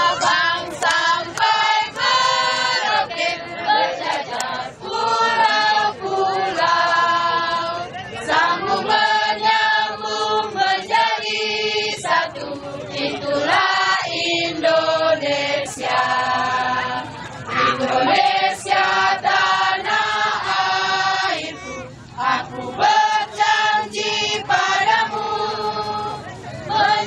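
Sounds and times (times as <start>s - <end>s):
group singing unaccompanied: 0.0s - 27.0s.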